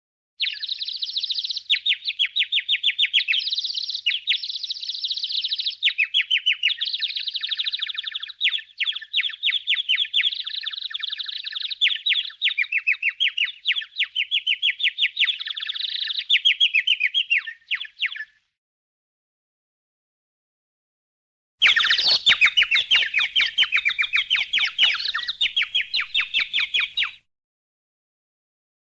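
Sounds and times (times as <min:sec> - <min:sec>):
small birds chirping: 0:00.4 - 0:18.6, 0:21.6 - 0:27.3.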